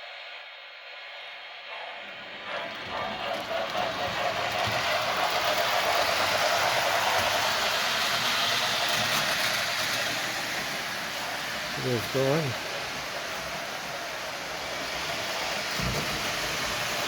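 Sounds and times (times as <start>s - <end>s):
model train rattling on track: 0.4s - 17.0s.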